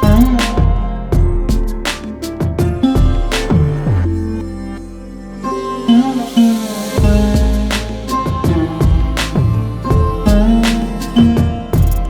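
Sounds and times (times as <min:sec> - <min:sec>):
low bass tone: 0:00.0 - 0:12.0
plucked string and synth music: 0:00.0 - 0:12.0.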